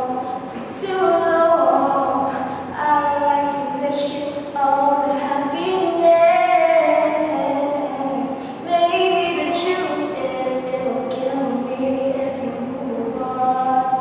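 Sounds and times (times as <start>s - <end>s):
woman singing unaccompanied: 0.0s - 14.0s.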